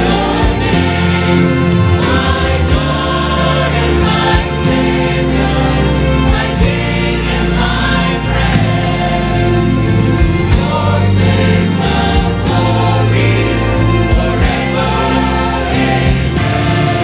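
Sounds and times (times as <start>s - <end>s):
choir singing: 0.0s - 17.0s
instrumental accompaniment: 0.0s - 17.0s.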